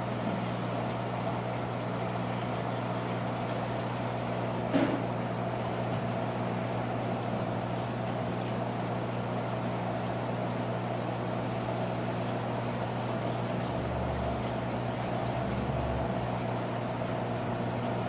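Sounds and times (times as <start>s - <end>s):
aquarium pump humming: 0.0s - 18.0s.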